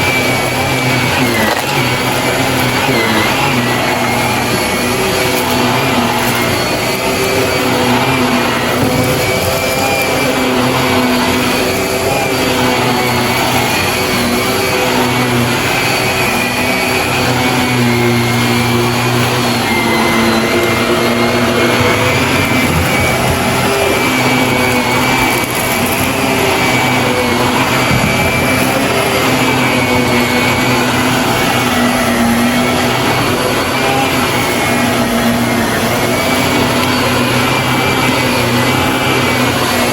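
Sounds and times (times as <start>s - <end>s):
vacuum cleaner whining hum: 0.0s - 39.9s.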